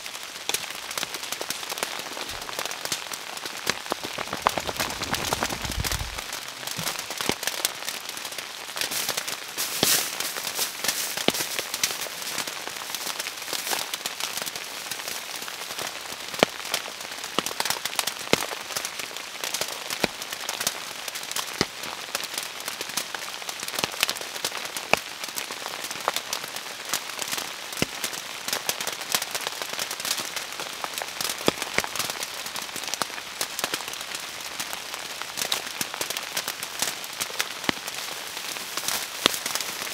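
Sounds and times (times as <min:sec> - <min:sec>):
steady rain with ticks: 0:00.0 - 0:39.9.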